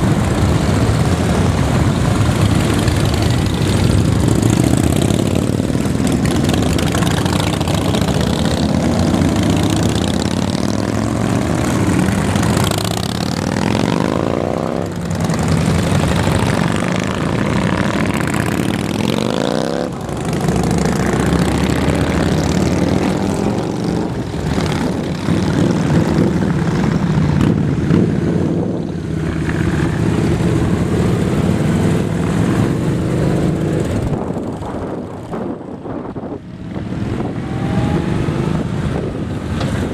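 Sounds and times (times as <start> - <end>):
motorcycles revving: 0.0 - 39.9.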